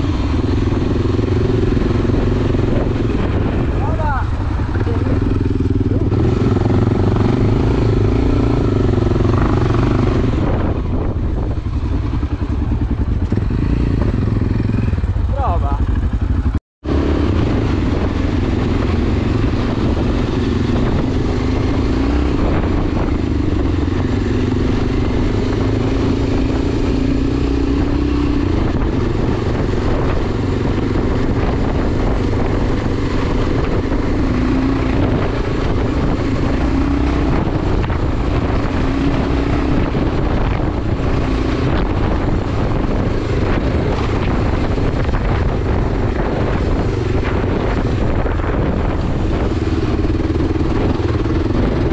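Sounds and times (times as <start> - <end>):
heavy low rumble: 0.0 - 51.9
motorcycle engine running: 0.0 - 51.9.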